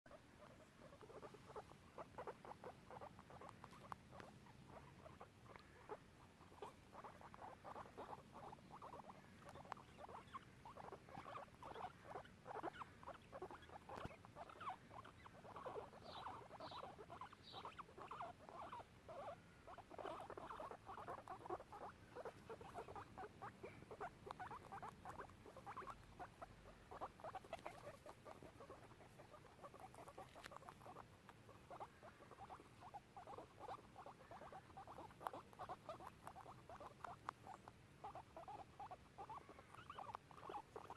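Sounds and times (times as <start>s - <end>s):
guinea pigs squeaking: 0.1s - 40.9s.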